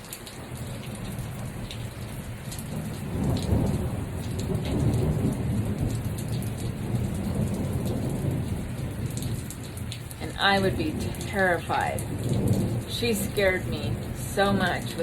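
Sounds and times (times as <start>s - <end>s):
light rain falling: 0.0s - 15.0s
low rumble of thunder: 0.4s - 15.0s.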